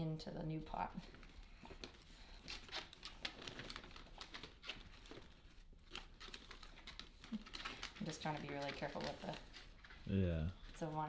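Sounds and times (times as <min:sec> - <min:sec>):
soil and roots crackling and rustling: 0:00.6 - 0:10.1.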